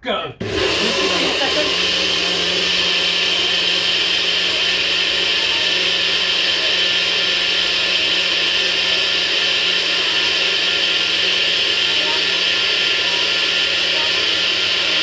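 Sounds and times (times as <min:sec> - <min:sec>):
blender motor whining: 0:00.4 - 0:15.0.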